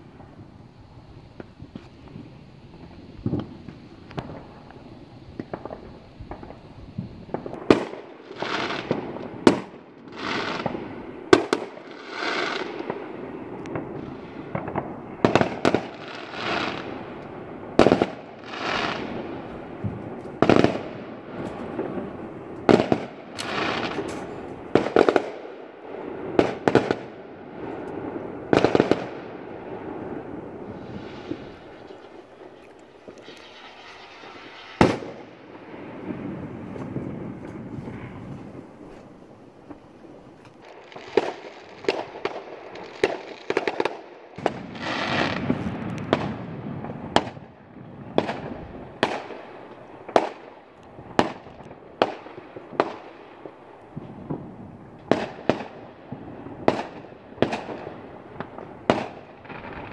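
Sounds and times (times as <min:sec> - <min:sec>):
fireworks bangs: 0:00.0 - 0:59.9
fireworks hiss: 0:00.0 - 0:59.9.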